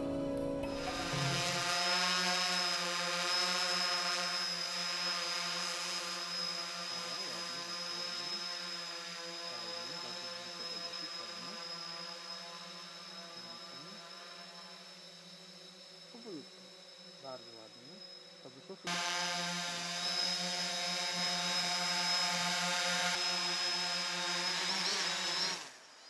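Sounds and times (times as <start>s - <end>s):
drone rotors buzzing: 0.7s - 26.0s.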